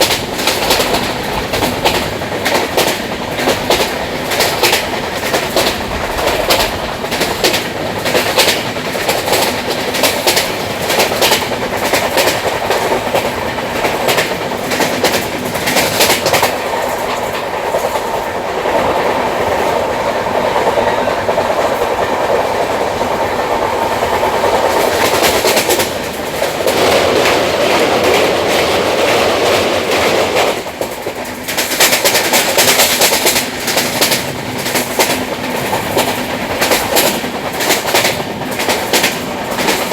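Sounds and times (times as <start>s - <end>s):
train steady rumble: 0.0s - 39.9s
train wheels clacking on rails: 0.0s - 39.9s.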